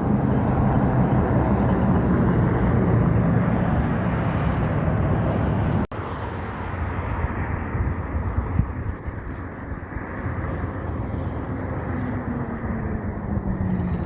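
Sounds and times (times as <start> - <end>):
truck passing by: 0.0 - 14.0.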